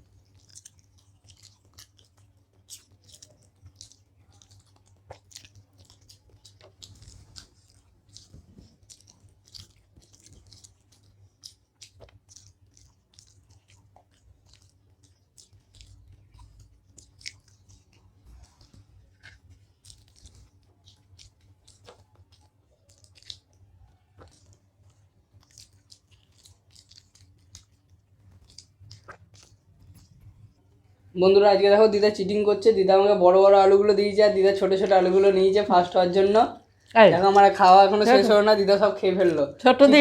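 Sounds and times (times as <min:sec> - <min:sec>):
wet chewing and mouth clicks: 0:00.0 - 0:40.0.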